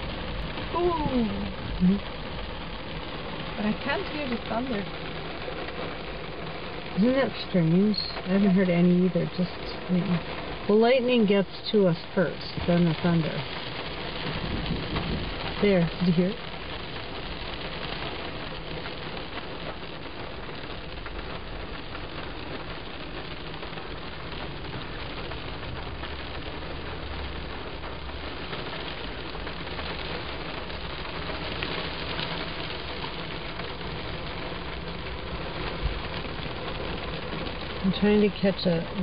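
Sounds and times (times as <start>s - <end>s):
rain on a car roof: 0.0s - 39.0s.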